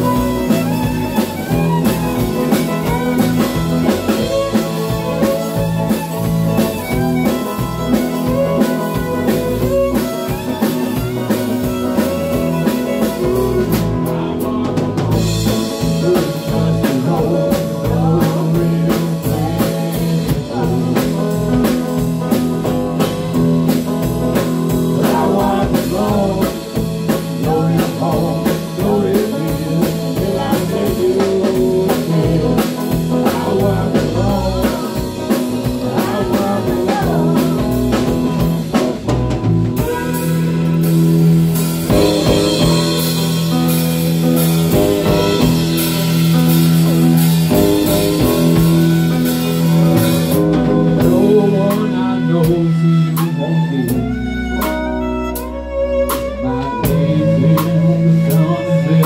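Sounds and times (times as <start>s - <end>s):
bass guitar: 0.0s - 59.0s
drum kit beat: 0.0s - 59.0s
electric and acoustic guitars: 0.0s - 59.0s.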